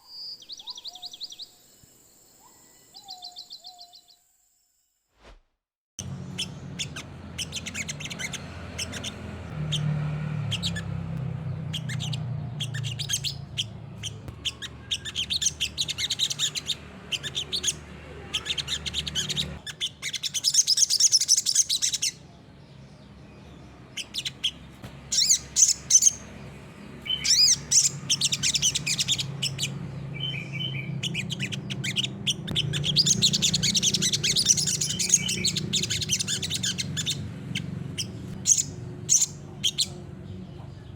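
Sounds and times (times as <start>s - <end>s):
bird chirping and trilling: 0.0s - 4.2s, 6.0s - 40.8s.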